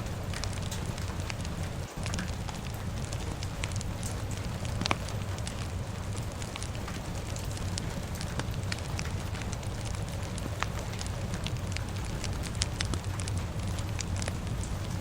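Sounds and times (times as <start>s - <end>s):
fire crackling and popping: 0.0s - 15.0s
low rumble: 0.0s - 15.0s
rain hissing: 0.0s - 15.0s.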